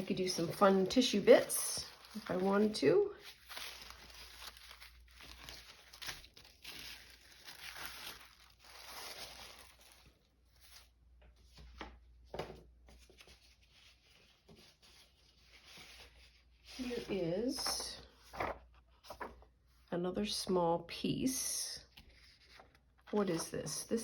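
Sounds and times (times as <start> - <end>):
paper rustling and crinkling: 0.0 - 19.8, 21.9 - 24.0.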